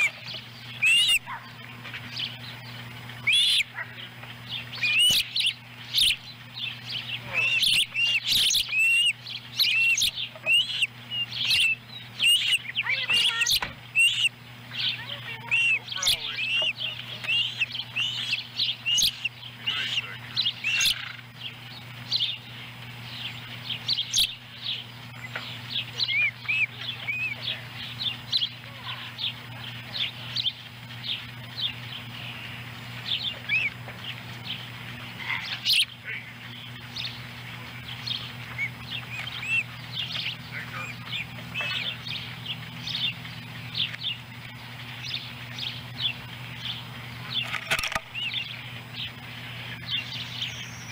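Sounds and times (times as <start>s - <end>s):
low electrical hum: 0.0s - 50.9s
young birds chirping: 0.0s - 50.9s.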